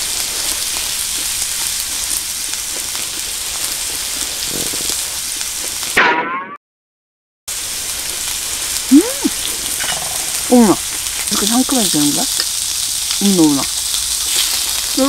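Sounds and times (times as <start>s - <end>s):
beef sizzling in a frying pan: 0.0s - 6.0s, 7.5s - 15.0s.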